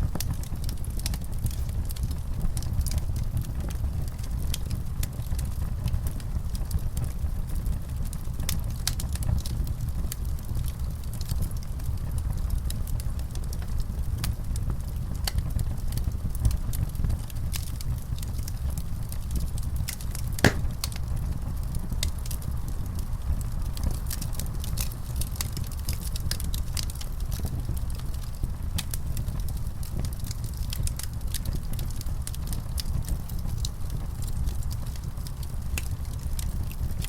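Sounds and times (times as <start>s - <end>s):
fire crackling: 0.0s - 37.0s.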